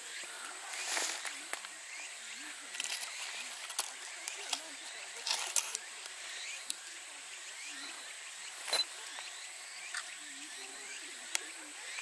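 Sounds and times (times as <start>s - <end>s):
faint distant voices: 0.0s - 12.0s
steady hiss: 0.0s - 12.0s.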